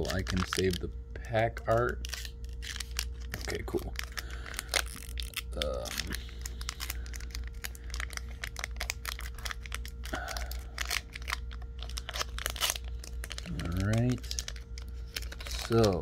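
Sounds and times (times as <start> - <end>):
foil wrapper crinkling and tearing: 0.0 - 0.9, 1.6 - 16.0.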